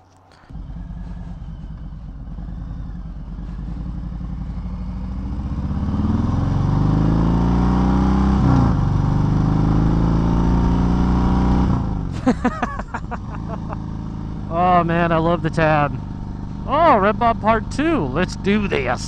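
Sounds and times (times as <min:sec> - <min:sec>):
motorcycle accelerating: 0:00.0 - 0:19.0.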